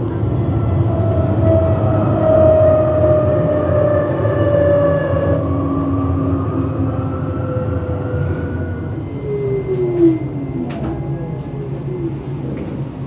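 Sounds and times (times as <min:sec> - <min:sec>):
tram drive whine: 0:00.0 - 0:13.0
tram rumbling on rails: 0:00.0 - 0:13.0.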